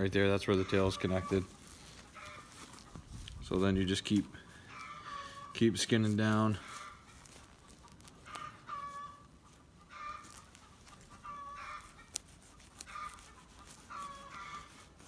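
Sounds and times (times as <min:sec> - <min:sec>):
chickens clucking: 0:00.2 - 0:14.9.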